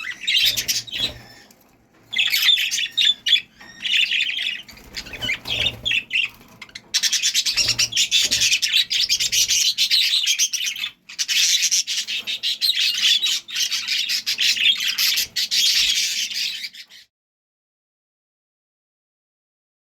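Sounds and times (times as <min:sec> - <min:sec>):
budgerigar chattering: 0:00.0 - 0:01.4, 0:02.1 - 0:17.0.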